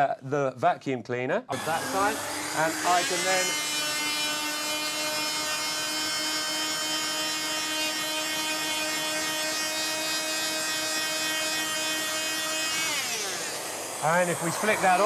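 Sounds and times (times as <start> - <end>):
multi-tool sanding wood: 1.5 - 15.0
vacuum cleaner: 1.6 - 15.0.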